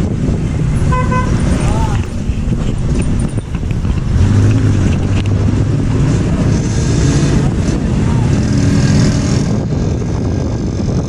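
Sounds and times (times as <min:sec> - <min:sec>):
vehicle engines in traffic: 0:00.0 - 0:11.0.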